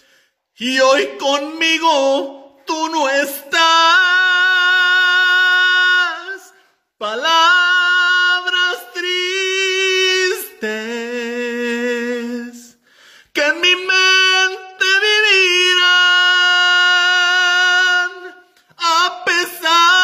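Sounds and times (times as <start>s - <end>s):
man singing a slow ballad: 0.0s - 20.0s.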